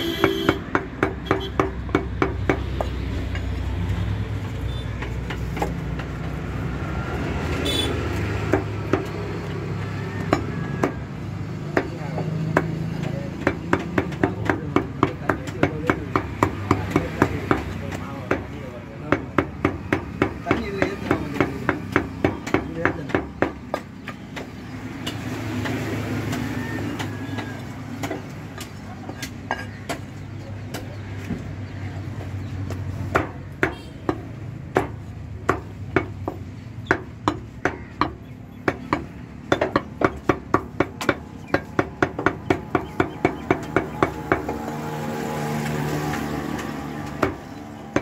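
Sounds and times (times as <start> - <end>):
scattered knocks: 0.2 - 3.6, 8.1 - 9.4, 11.7 - 30.9, 32.2 - 44.9, 45.5 - 48.0.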